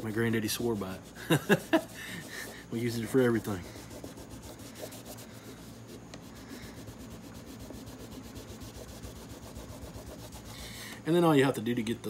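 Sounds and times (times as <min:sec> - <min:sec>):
cloth rag scrubbing plastic: 0:00.0 - 0:10.7.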